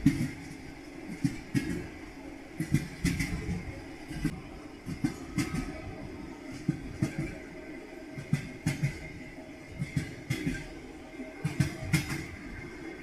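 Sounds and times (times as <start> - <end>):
train rolling rumble: 0.0 - 13.0
train wheels clattering over joints: 0.0 - 13.0.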